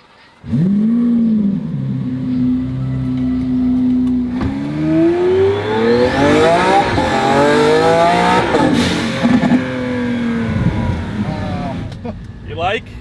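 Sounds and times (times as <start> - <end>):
car engine idling and revving: 0.4 - 13.0.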